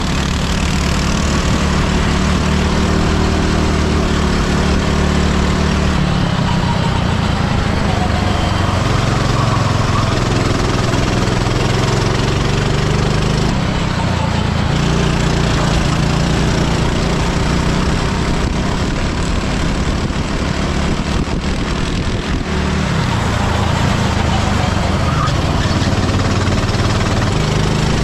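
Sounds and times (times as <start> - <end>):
kart engine running hard: 0.0 - 28.0
noisy rush: 0.0 - 28.0.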